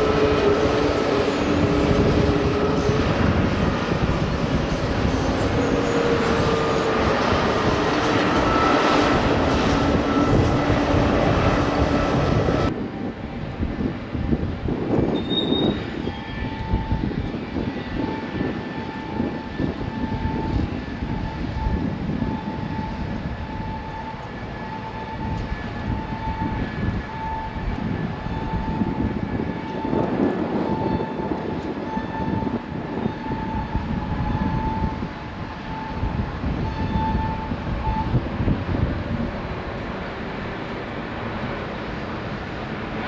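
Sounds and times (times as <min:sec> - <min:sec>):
distant jet engines rumbling: 0:00.0 - 0:43.0.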